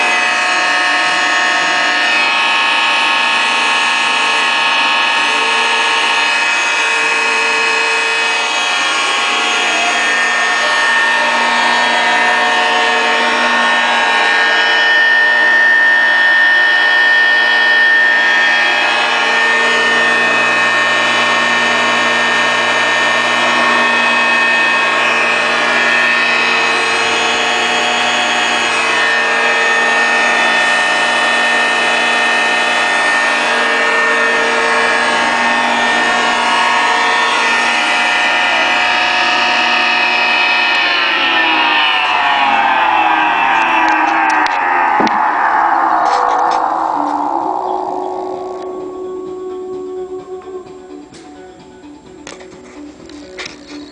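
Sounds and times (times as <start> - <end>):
valve grinder whining: 0.0 - 53.9.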